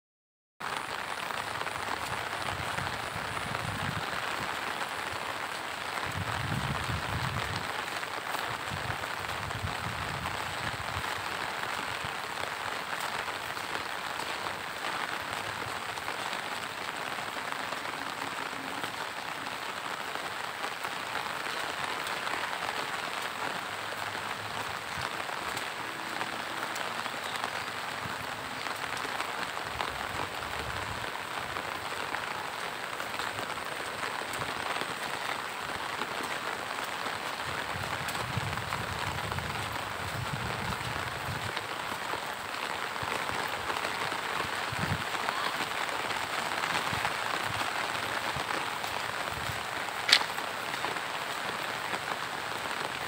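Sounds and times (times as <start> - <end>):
steady rain hiss: 0.6 - 53.0.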